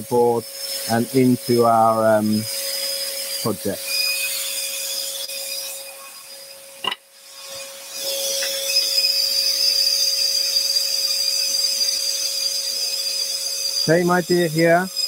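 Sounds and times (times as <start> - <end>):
scroll saw cutting wood: 0.0 - 15.0.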